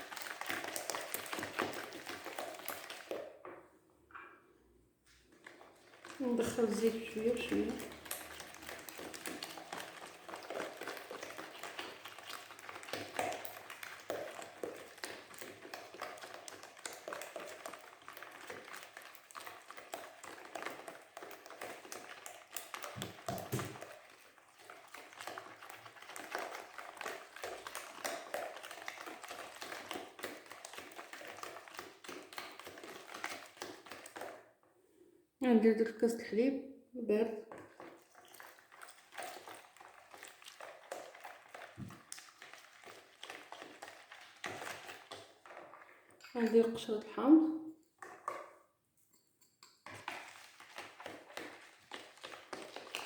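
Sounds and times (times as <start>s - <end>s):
whisk beating in a bowl: 0.0s - 3.3s, 5.4s - 34.4s, 37.5s - 47.2s, 49.4s - 53.0s.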